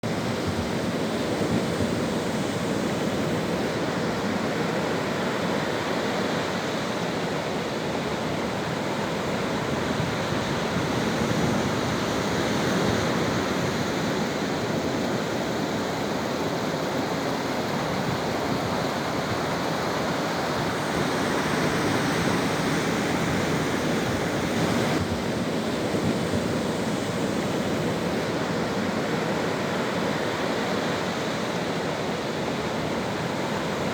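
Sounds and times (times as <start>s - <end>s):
sea waves washing onto beach: 0.0s - 33.9s.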